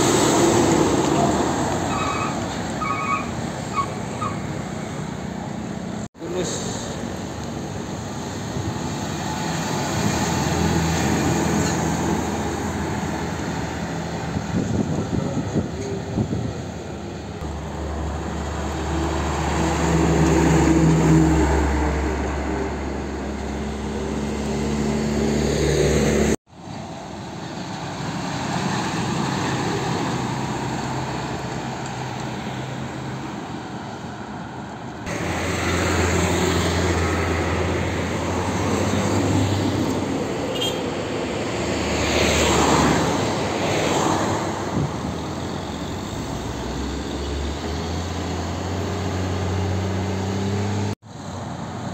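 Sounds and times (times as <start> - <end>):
heavy trucks passing: 0.0 - 51.9.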